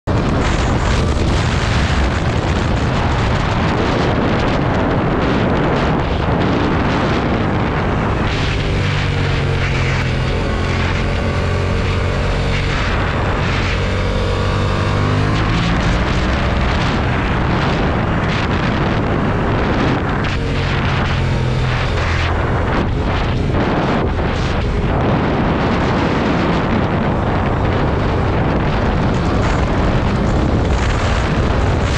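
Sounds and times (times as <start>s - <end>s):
motorcycle engine: 0.0s - 31.9s
wind buffeting microphone: 0.0s - 31.9s.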